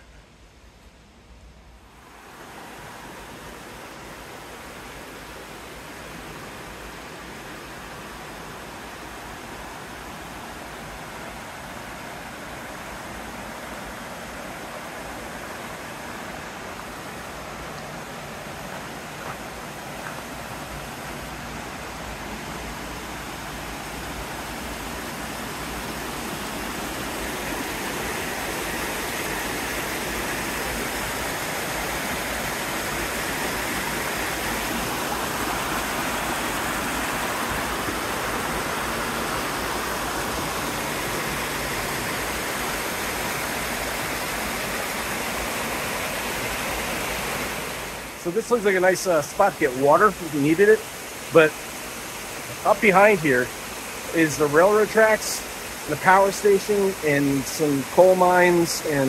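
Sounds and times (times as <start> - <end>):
creek water rushing over rocks: 1.8 - 59.0.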